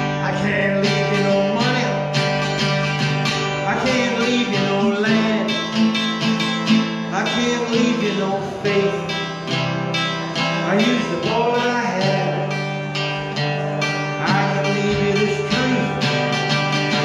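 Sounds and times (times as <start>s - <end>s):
guitar strumming: 0.0s - 17.0s
man singing: 0.0s - 17.0s.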